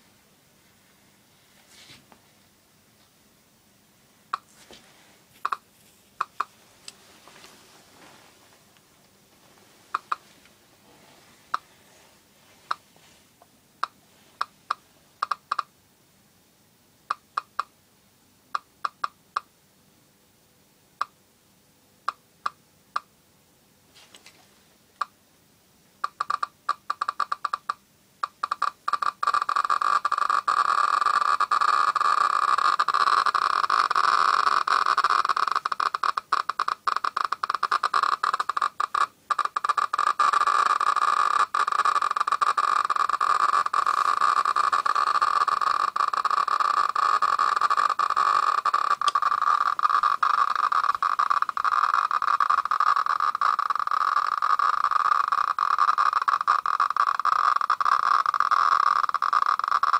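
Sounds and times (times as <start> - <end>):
geiger counter crackling: 4.2 - 15.8, 17.0 - 17.8, 18.5 - 19.5, 22.0 - 23.1, 24.0 - 25.2, 25.9 - 59.9.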